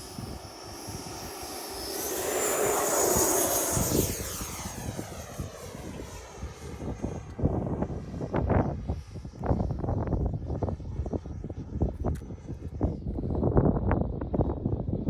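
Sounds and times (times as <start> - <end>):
model jet fan whine: 0.0 - 15.0
wind buffeting microphone: 0.0 - 15.0.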